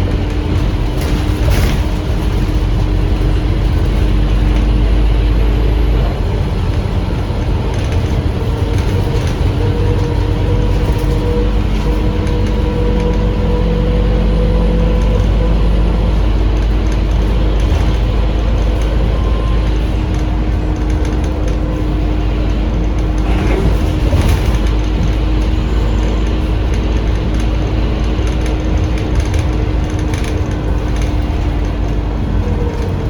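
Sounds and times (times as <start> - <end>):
bus engine low rumble: 0.0 - 33.0.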